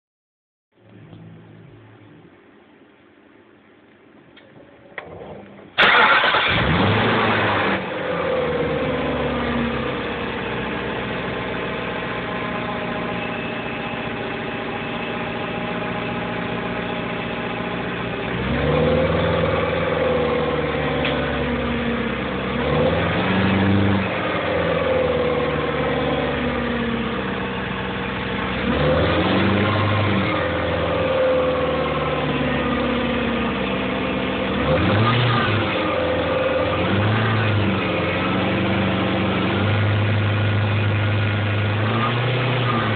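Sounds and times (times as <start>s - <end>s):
car engine starting and revving: 5.0s - 42.9s.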